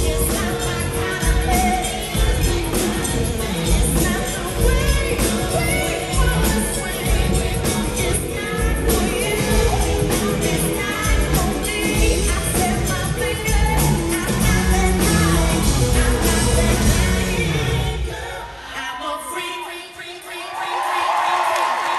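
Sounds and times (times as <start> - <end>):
live pop-rock band playing: 0.0 - 18.0
woman singing: 0.0 - 21.4.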